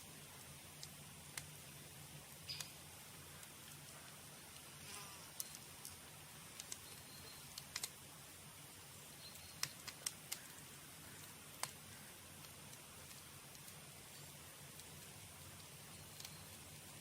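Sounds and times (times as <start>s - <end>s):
campfire crackling and popping: 0.0s - 17.0s
soft steady hiss: 0.0s - 17.0s.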